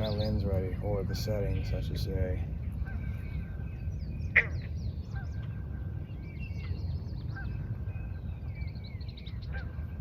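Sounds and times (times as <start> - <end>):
birds chirping and whistling: 0.0 - 10.0.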